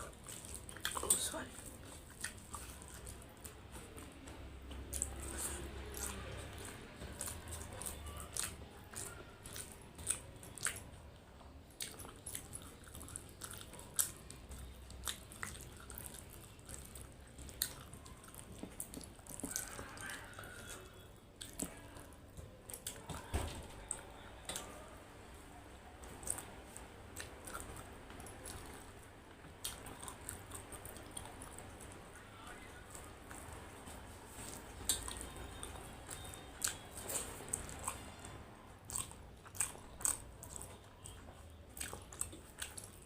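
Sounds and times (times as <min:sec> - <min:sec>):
person chewing food: 0:00.0 - 0:43.0.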